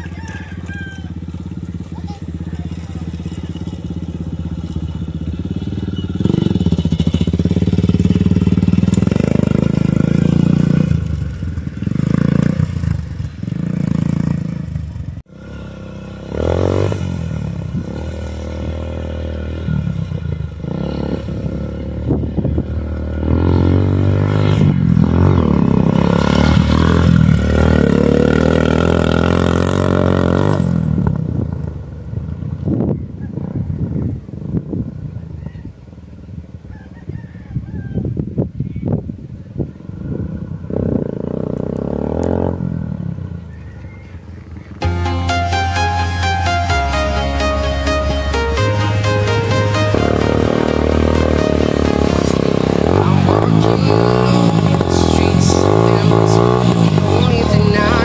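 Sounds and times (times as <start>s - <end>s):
dirt bike engine revving: 0.0s - 31.5s, 40.1s - 43.2s, 44.7s - 58.0s.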